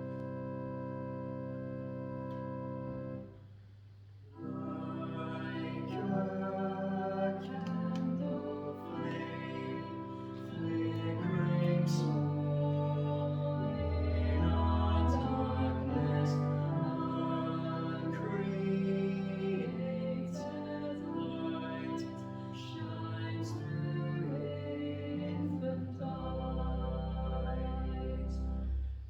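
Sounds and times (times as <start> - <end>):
slow hymn singing: 4.4 - 28.8.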